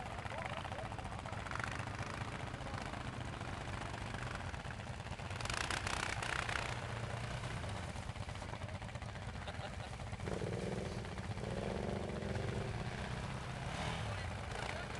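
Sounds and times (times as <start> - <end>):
atv engines droning: 0.0 - 14.9.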